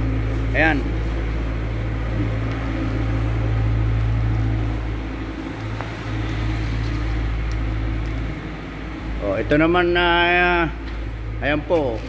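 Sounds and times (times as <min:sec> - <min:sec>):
low mechanical engine hum: 0:00.0 - 0:12.0.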